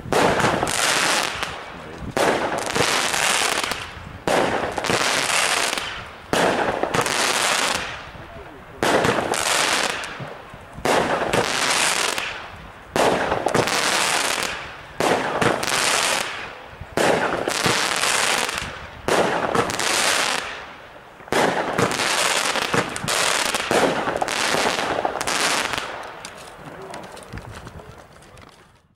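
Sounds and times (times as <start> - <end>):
firework shots banging and crackling: 0.0 - 28.6.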